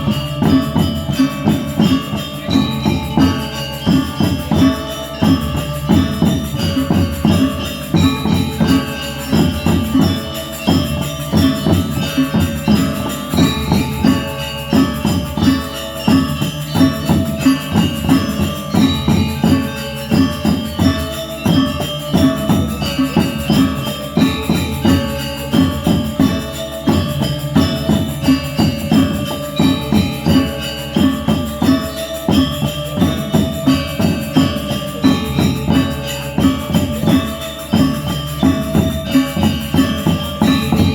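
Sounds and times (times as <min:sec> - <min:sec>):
gamelan ensemble playing: 0:00.0 - 0:40.9.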